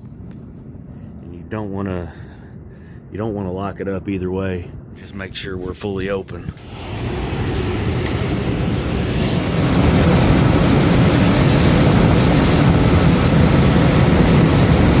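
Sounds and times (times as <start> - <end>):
air unit rushing and rumbling: 0.0 - 15.0.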